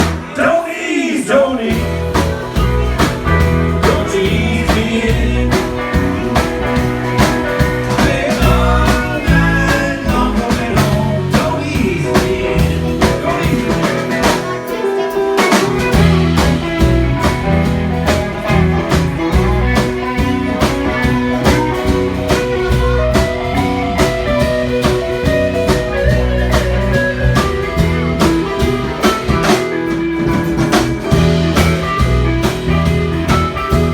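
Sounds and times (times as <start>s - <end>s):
steady drum beat: 0.0s - 0.4s, 1.7s - 33.9s
bass: 0.0s - 0.5s, 1.2s - 33.9s
electric guitar: 1.6s - 33.9s.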